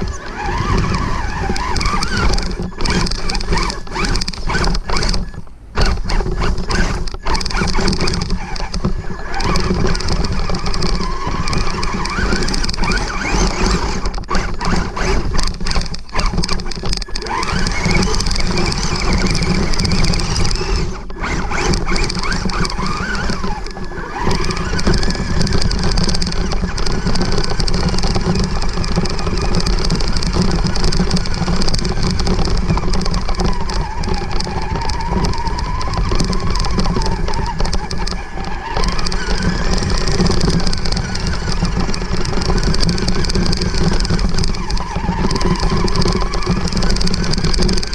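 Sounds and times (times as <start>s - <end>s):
electric motor whine: 0.0s - 47.9s
grass rustling against truck: 0.0s - 47.9s.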